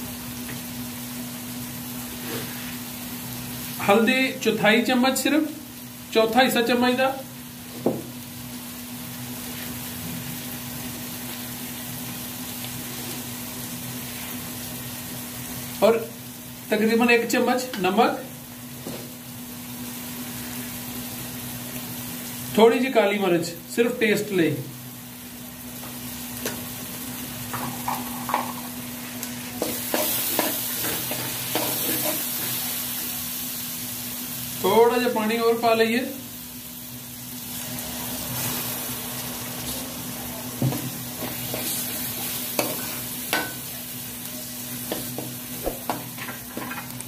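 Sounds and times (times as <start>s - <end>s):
masala sizzling in oil: 0.0s - 47.0s.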